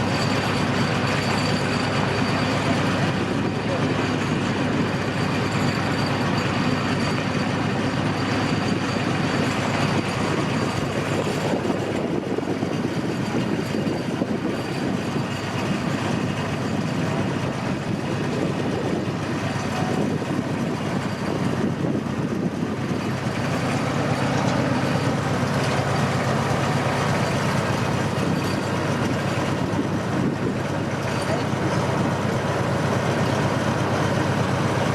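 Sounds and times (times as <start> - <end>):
low engine hum: 0.0 - 34.9
train wheels rumbling on rails: 0.0 - 34.9.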